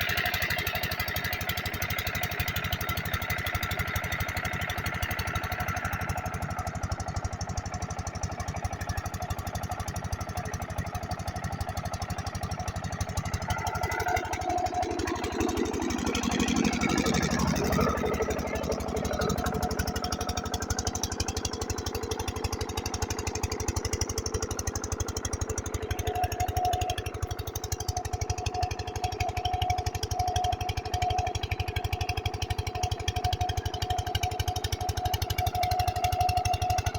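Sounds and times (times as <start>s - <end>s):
engine driving water pump: 0.0s - 36.9s.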